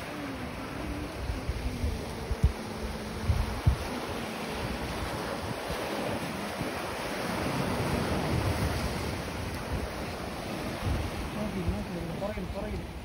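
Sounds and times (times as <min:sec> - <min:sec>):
sea waves washing in: 0:00.0 - 0:13.0
wind on microphone: 0:00.0 - 0:13.0.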